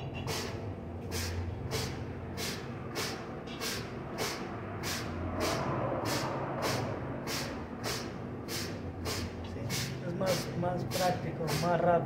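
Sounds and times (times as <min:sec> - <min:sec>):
air pump exhaust hiss: 0:00.2 - 0:12.0.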